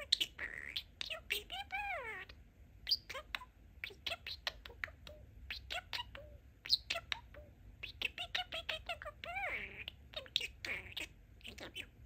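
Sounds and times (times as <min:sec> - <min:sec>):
budgerigar chattering: 0:00.0 - 0:02.3, 0:02.9 - 0:11.9.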